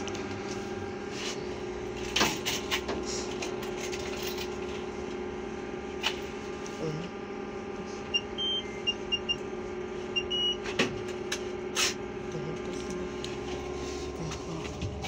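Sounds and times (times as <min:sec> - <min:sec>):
trolleybus electrical hum: 0:00.0 - 0:15.0.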